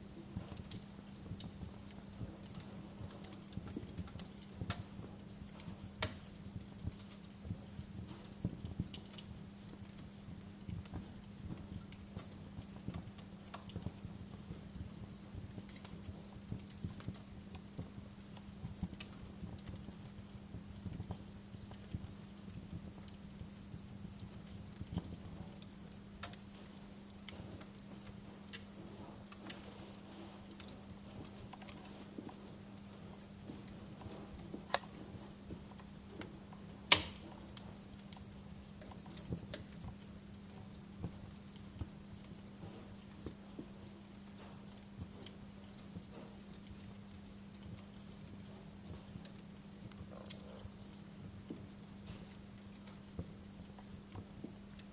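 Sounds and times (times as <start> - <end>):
faint low hum: 0.0 - 54.9
wood fire crackling: 0.0 - 54.9.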